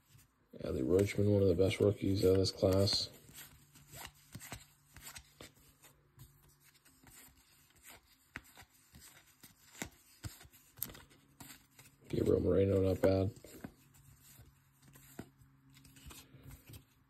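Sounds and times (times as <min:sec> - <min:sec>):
cards flipping: 0:00.8 - 0:17.0.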